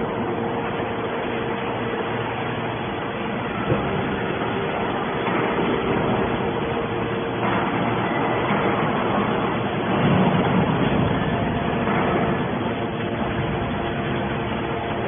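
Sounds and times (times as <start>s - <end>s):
constant hum: 0.0s - 15.0s
hydraulic baler machine noise: 0.0s - 15.0s.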